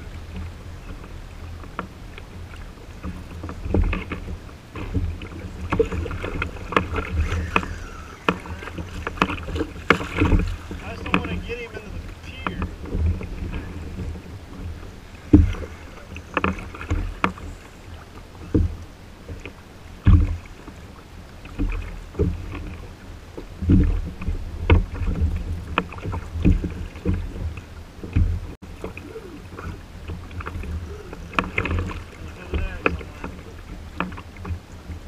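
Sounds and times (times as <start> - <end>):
water slapping kayak hull: 0.0 - 35.0.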